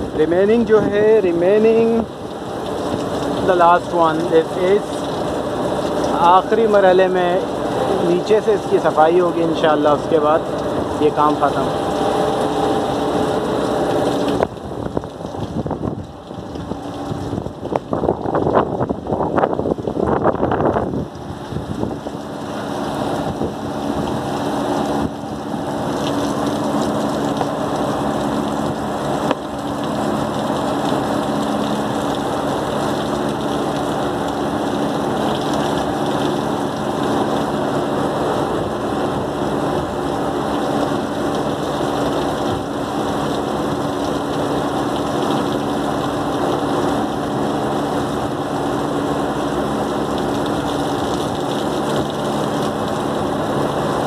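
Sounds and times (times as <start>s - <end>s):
machine hum: 4.6s - 54.0s.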